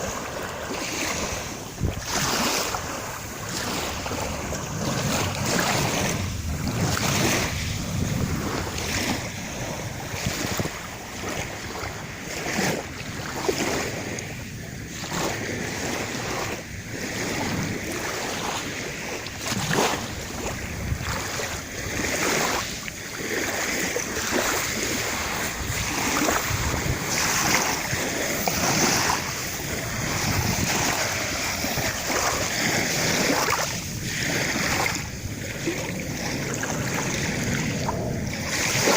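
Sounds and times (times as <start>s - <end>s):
sea waves washing: 0.0s - 38.9s
wind buffeting microphone: 0.0s - 38.9s.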